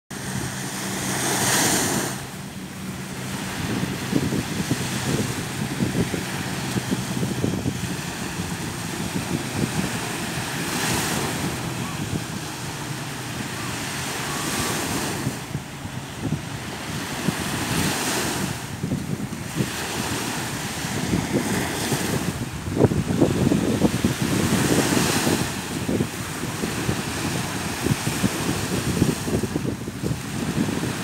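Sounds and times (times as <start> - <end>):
small waves washing on sand: 0.1 - 31.0
wind buffeting microphone: 0.1 - 31.0.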